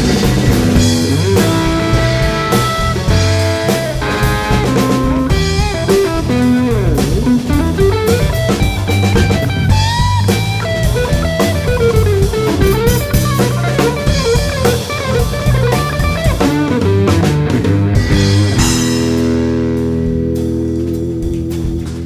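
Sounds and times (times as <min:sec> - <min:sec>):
blues rock music with guitar: 0:00.0 - 0:22.0.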